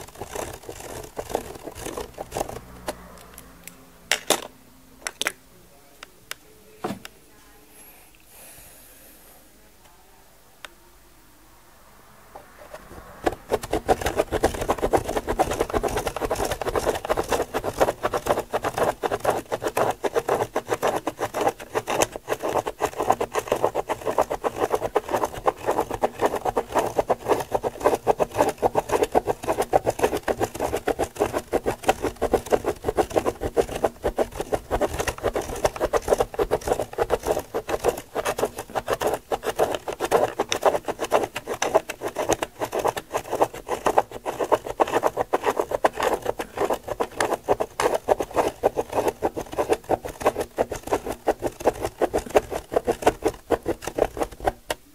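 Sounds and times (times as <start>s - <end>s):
pen scratching on paper: 0.0s - 3.1s, 12.5s - 54.6s
plastic gear teeth clicking: 0.0s - 3.4s, 13.2s - 54.6s.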